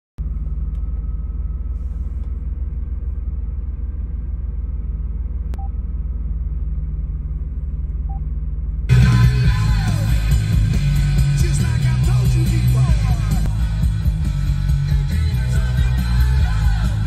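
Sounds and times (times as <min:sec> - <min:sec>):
car engine idling: 0:00.2 - 0:17.0.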